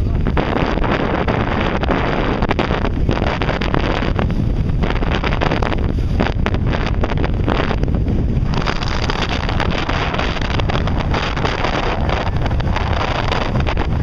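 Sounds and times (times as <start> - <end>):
boat engine noise: 0.0 - 14.0
water rushing: 0.0 - 14.0
wind buffeting microphone: 0.0 - 14.0.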